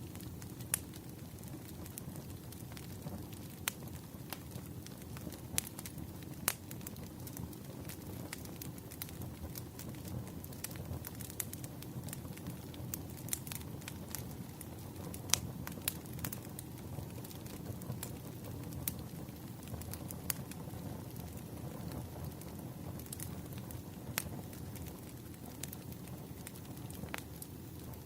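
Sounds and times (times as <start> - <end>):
logs crackling and popping: 0.0 - 28.0
low rumble of flames: 0.0 - 28.0.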